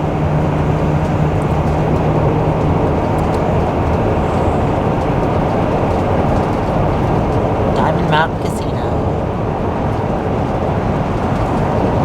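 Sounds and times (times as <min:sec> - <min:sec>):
engine and road noise drone: 0:00.0 - 0:12.0.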